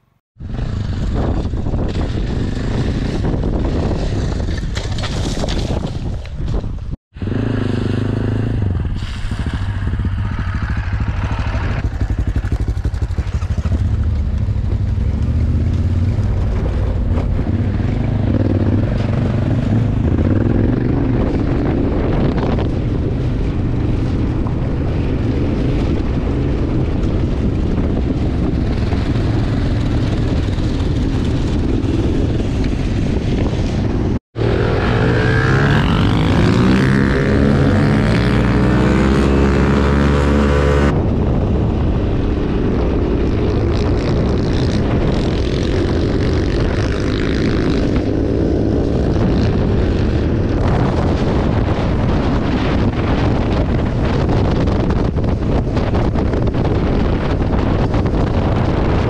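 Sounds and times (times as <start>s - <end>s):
motorcycle engine running: 9.6s - 59.0s.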